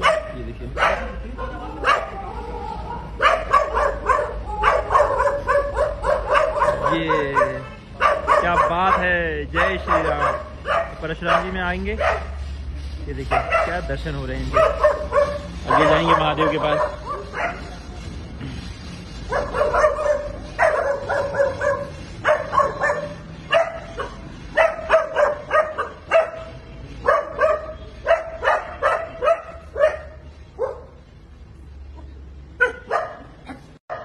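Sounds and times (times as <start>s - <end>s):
dogs barking: 0.0s - 12.5s, 13.2s - 17.9s, 19.1s - 31.1s, 32.0s - 34.0s.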